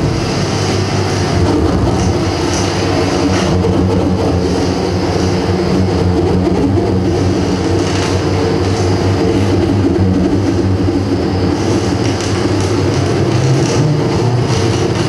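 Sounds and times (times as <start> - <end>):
low droning tones: 0.0 - 15.0
noise music hiss and rumble: 0.0 - 15.0.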